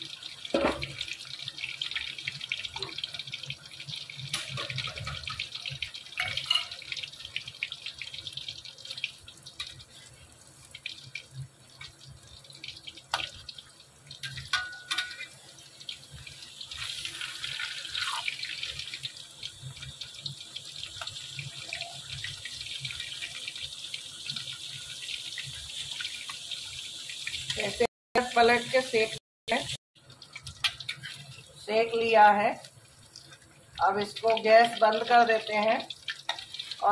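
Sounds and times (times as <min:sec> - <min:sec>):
paneer sizzling in oil: 0:00.0 - 0:36.9.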